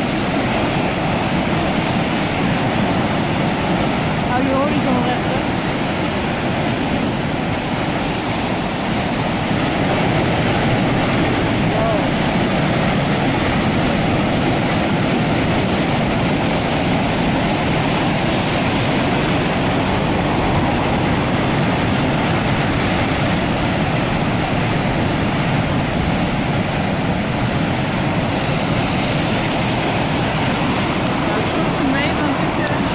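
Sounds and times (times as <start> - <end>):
surf breaking on rocky shore: 0.0 - 32.9.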